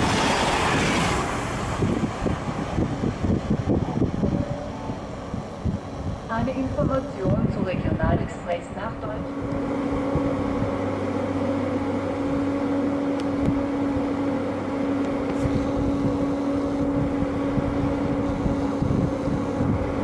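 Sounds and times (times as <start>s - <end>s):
steady hum: 0.0s - 20.0s
wind buffeting microphone: 0.0s - 20.0s.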